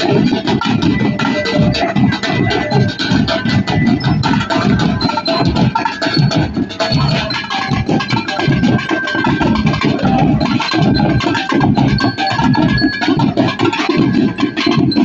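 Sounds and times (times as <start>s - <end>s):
percussion-heavy music: 0.0s - 15.0s.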